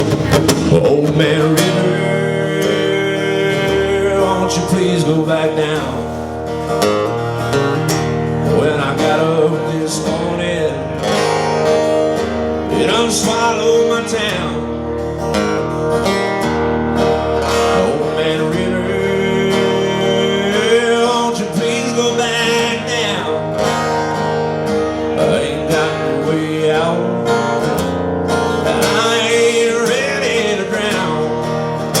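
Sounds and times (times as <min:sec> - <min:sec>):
country song on acoustic guitar: 0:00.0 - 0:32.0.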